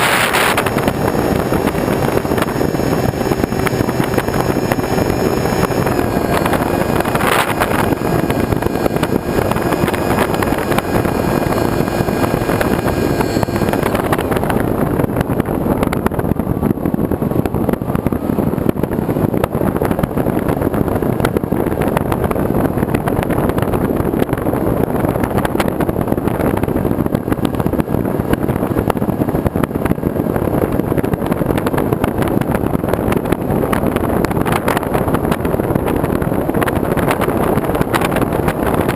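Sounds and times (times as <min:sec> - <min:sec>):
faint steady whine: 0:00.0 - 0:38.9
moving vehicle rushing noise: 0:00.0 - 0:38.9
wind buffeting microphone: 0:00.0 - 0:38.9.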